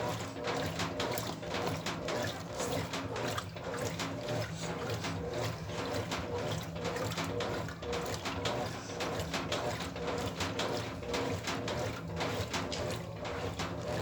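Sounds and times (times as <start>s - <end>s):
water sloshing in washing machine: 0.0s - 14.0s.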